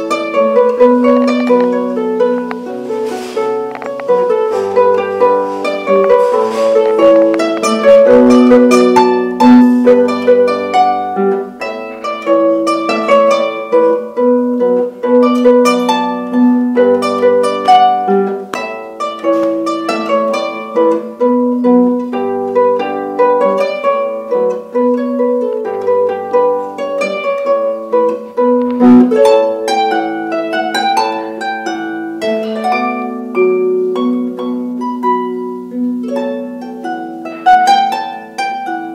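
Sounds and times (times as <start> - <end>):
harp plucked notes: 0.0 - 38.9.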